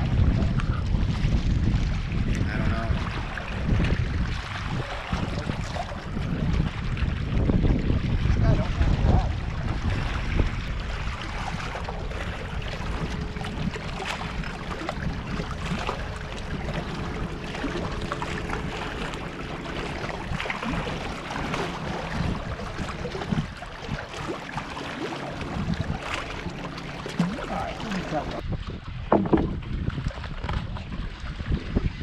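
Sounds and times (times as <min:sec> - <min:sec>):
water lapping against rocks: 0:00.0 - 0:32.0
wind on microphone: 0:00.0 - 0:32.0.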